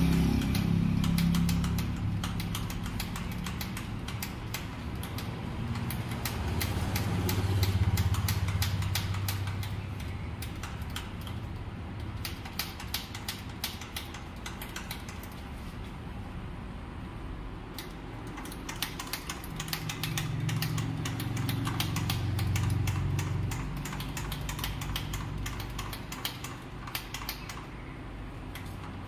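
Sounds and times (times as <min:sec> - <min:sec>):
sharp irregular clicks: 0:00.0 - 0:15.5, 0:17.7 - 0:29.0.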